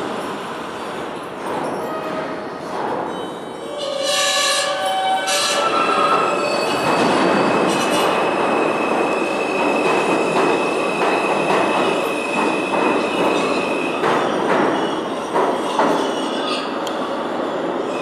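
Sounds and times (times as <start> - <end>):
subway train running noise: 0.0 - 18.0.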